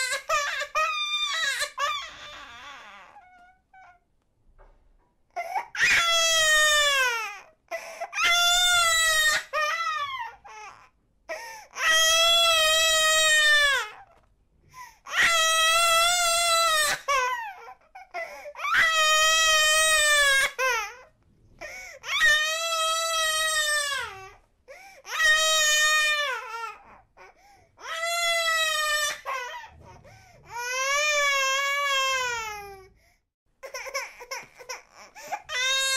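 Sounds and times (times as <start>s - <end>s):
baby crying: 0.0s - 4.0s, 5.4s - 14.2s, 15.0s - 24.4s, 25.0s - 32.9s, 33.6s - 35.9s.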